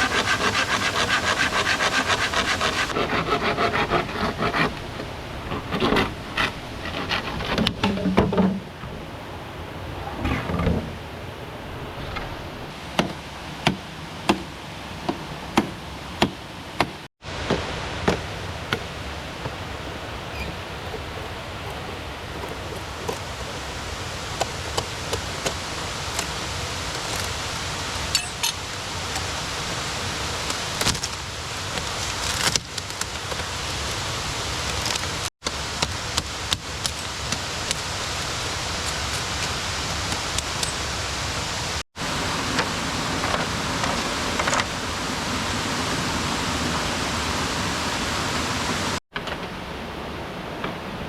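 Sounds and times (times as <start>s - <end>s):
river water rushing: 0.0s - 3.1s, 10.9s - 51.0s.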